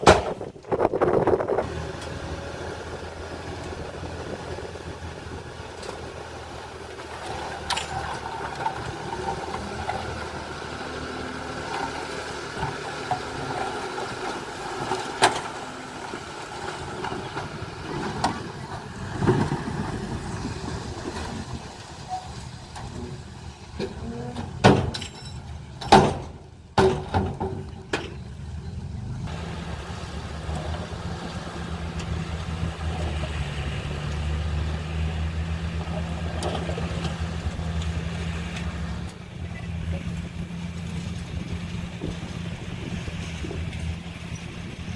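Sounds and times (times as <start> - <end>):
heavy machinery engine rumble: 0.0 - 44.9.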